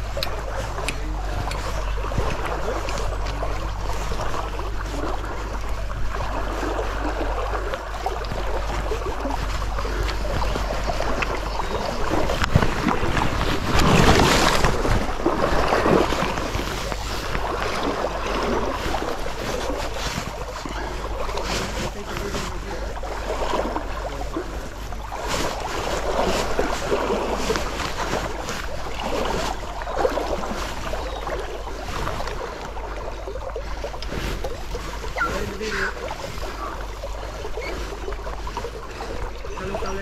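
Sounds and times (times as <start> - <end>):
stream water rippling: 0.0 - 40.0
wind rumbling on microphone: 0.0 - 40.0.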